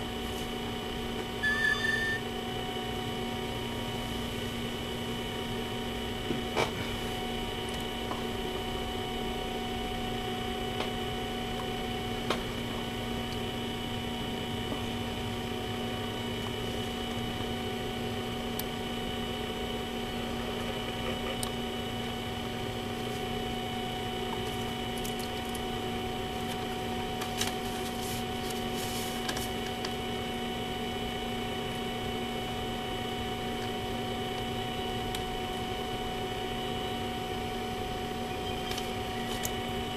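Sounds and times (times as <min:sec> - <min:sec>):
electrical hum and whine: 0:00.0 - 0:39.9.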